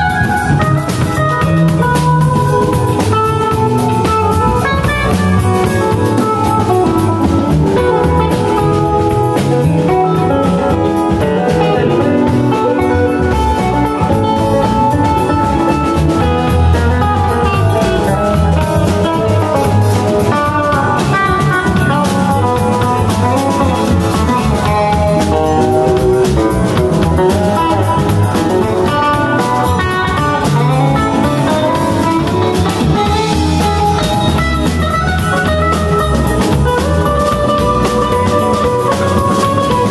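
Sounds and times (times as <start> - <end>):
drum kit: 0.0 - 39.9
electric guitars: 0.0 - 39.9
keyboard: 0.0 - 39.9.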